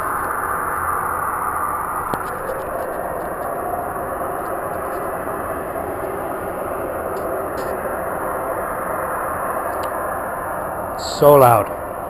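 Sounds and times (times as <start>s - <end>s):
loud steady noise from sky: 0.0s - 12.0s.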